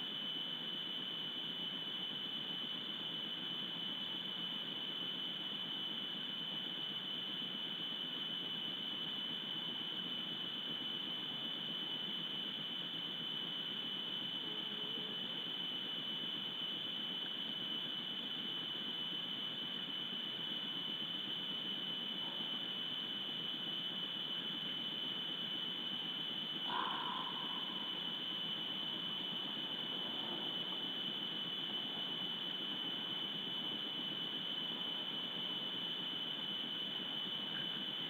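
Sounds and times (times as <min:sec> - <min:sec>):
high-pitched electronic whine: 0:00.0 - 0:38.0.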